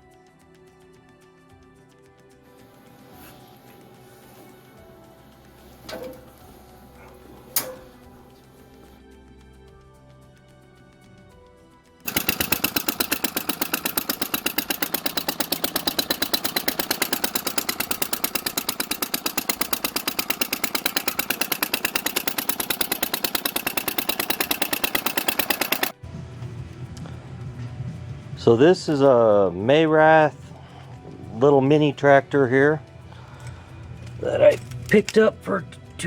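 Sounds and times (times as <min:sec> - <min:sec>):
small single-cylinder engine running: 0:02.5 - 0:09.1, 0:12.0 - 0:34.7.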